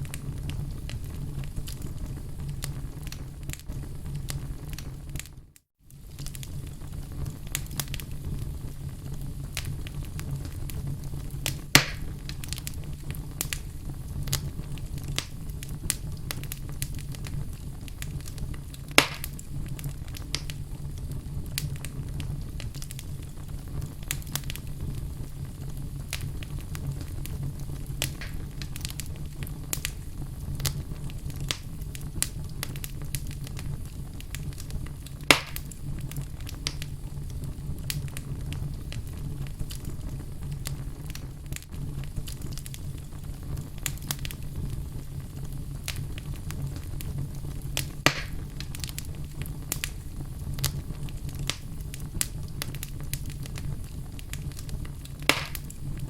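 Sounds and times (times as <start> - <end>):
fire burning in fireplace: 0.0 - 56.0
fire crackling: 0.0 - 56.0
wood popping in fire: 0.0 - 56.0.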